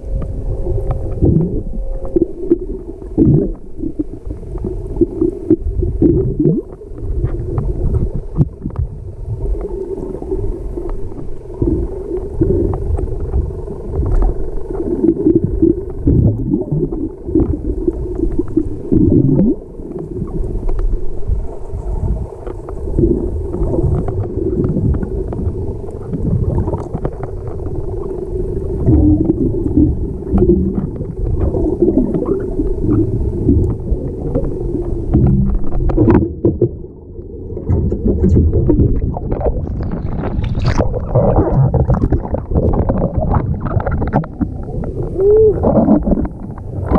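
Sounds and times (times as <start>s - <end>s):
water gurgling underwater: 0.0s - 46.9s.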